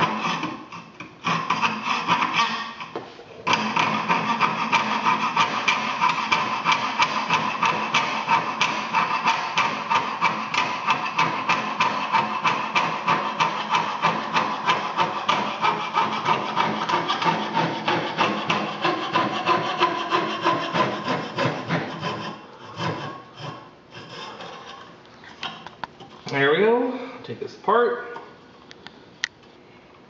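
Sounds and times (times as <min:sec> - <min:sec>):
saw cutting wood: 0:00.0 - 0:02.9, 0:03.5 - 0:24.7.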